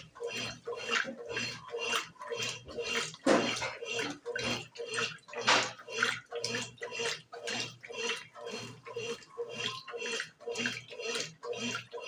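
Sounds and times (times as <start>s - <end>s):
water sloshing in washing machine: 0.0s - 12.0s.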